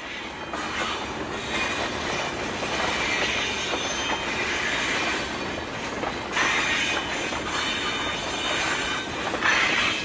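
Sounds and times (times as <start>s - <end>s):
freight train wheels squealing: 0.0s - 10.0s.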